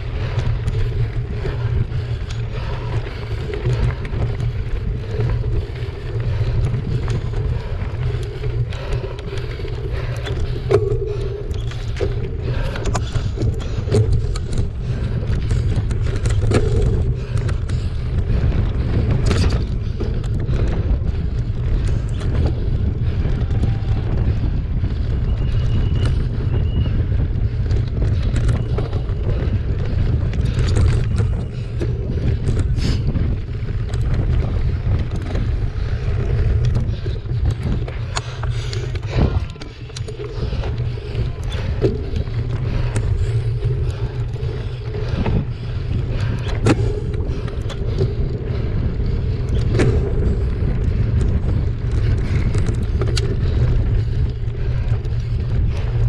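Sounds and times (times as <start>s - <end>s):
bike rattling and knocking: 0.0s - 56.0s
wind buffeting microphone: 0.0s - 56.0s.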